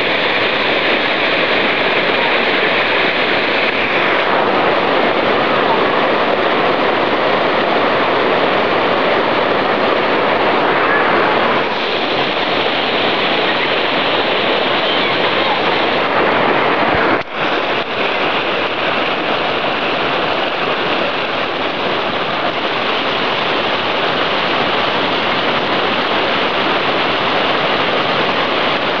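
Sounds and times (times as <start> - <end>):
river rapids rushing over rocks: 0.0 - 29.0.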